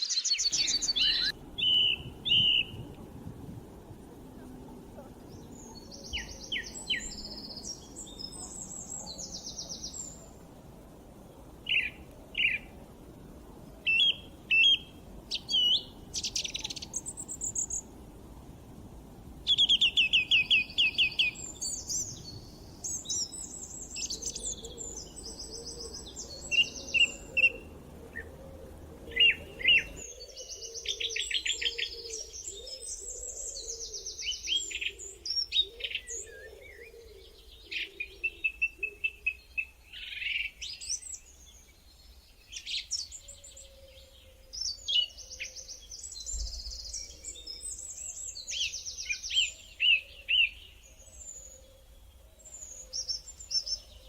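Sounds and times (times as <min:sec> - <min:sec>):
faint background hiss: 0:00.0 - 0:54.0
songbirds singing and calling: 0:00.0 - 0:54.0.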